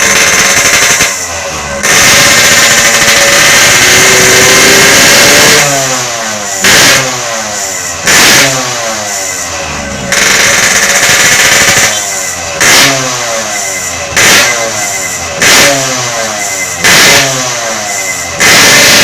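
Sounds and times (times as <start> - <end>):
two-stroke motorcycle revving: 0.0 - 19.0.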